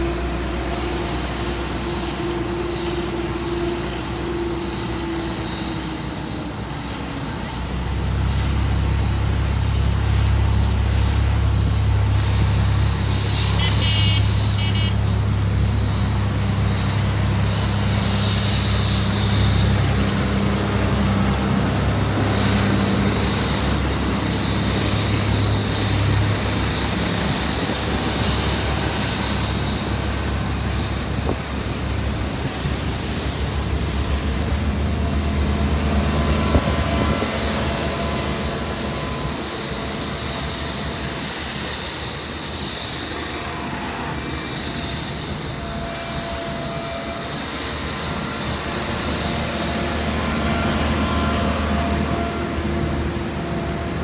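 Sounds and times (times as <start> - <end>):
road roller engines droning: 0.0 - 54.0.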